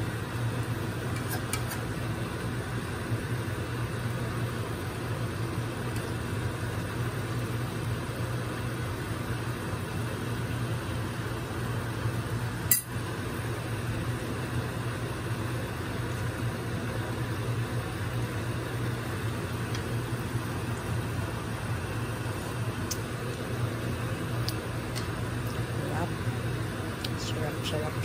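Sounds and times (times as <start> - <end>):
meat simmering in a frying pan: 0.0 - 27.1
low hum with faint hiss: 0.0 - 28.0.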